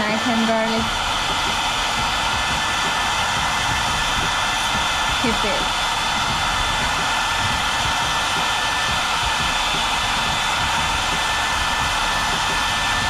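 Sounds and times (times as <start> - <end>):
hair dryer blowing: 0.0 - 13.0.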